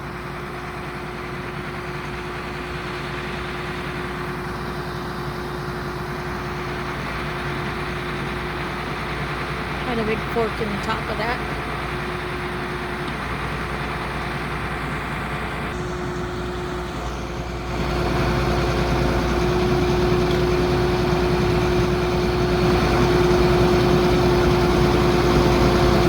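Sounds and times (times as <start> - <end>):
constant whine: 0.0 - 26.0
heavy vehicle engine running: 0.0 - 26.0.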